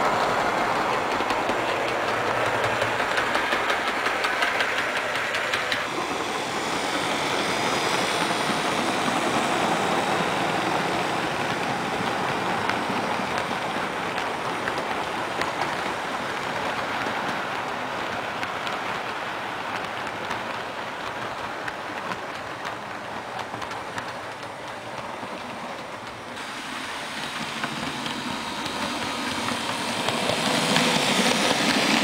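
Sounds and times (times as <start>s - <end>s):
model train running: 0.0s - 32.0s
model train wheels clicking: 0.0s - 32.0s.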